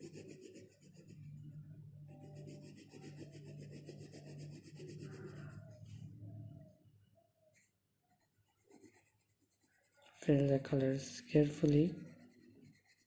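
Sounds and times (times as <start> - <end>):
colouring pencil scratching paper: 0.0 - 5.9, 7.5 - 13.0.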